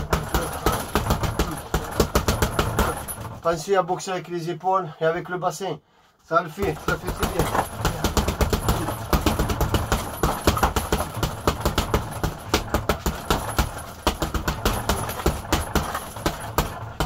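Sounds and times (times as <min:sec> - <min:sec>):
gloves striking punching bag: 0:00.0 - 0:03.4, 0:06.6 - 0:17.0.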